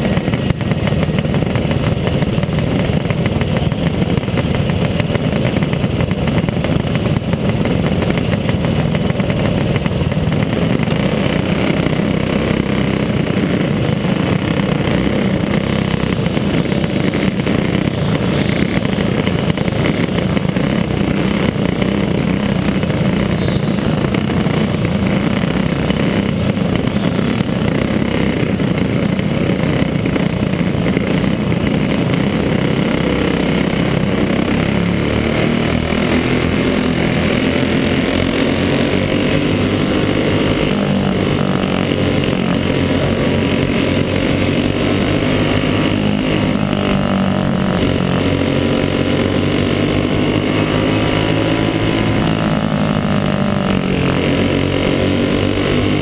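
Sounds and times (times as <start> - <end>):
kart engine running hard: 0.0 - 56.0
other kart engines: 0.0 - 56.0.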